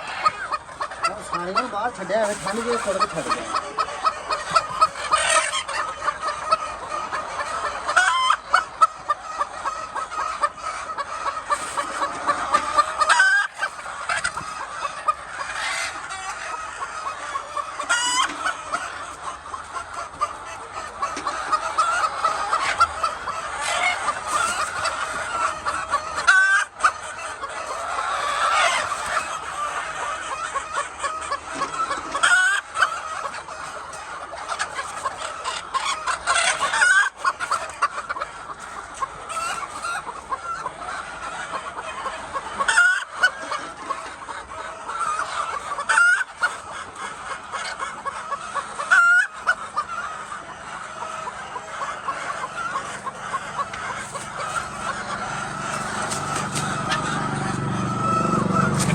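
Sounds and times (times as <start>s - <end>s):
hens clucking and squawking: 0.0s - 58.9s.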